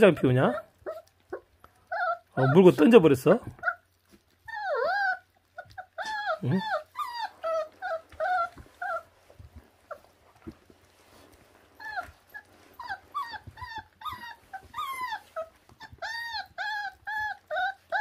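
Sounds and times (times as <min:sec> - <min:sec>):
puppies whining: 0:00.0 - 0:18.0.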